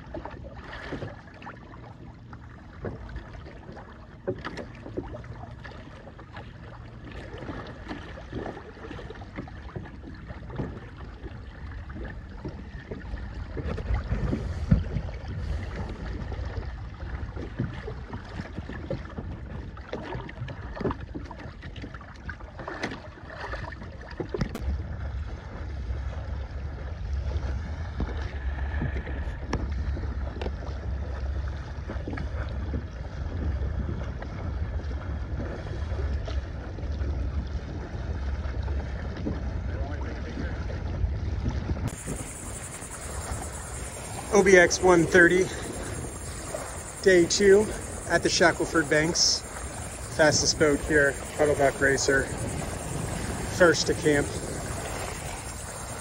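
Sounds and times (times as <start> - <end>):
water lapping against boat hull: 0.0 - 56.0
wind rumbling on microphone: 0.0 - 56.0.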